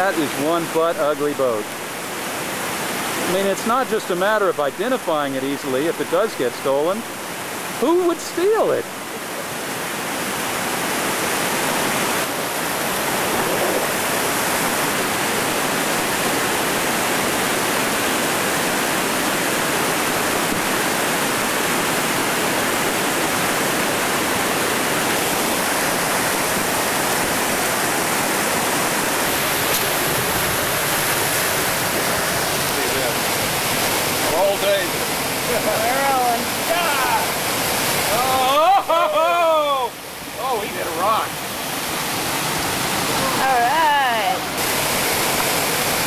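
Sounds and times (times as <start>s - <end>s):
whitewater rapids rushing over rock: 0.0s - 46.0s.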